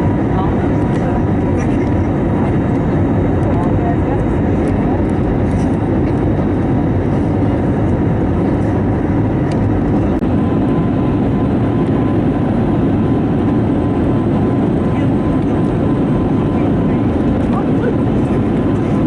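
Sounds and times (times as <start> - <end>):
airplane cabin engine noise: 0.0 - 19.0.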